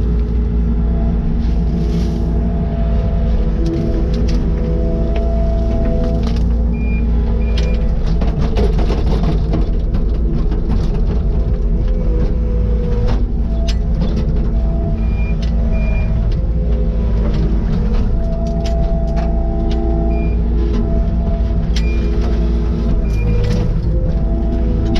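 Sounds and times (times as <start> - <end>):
skid steer engine drone: 0.0 - 24.9.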